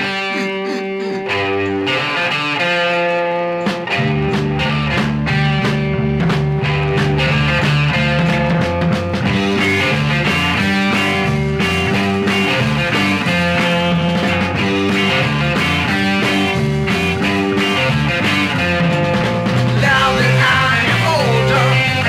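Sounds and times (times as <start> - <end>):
rock band instrumental: 0.0 - 22.0.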